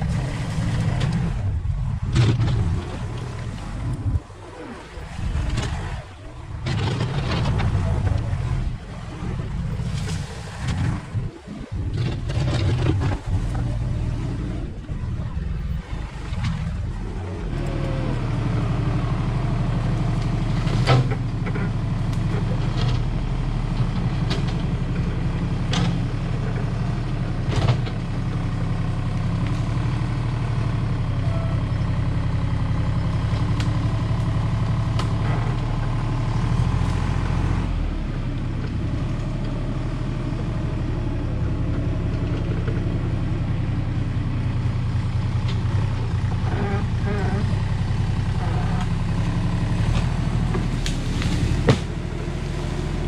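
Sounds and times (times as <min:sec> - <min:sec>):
heavy machine engine working: 0:00.0 - 0:53.0.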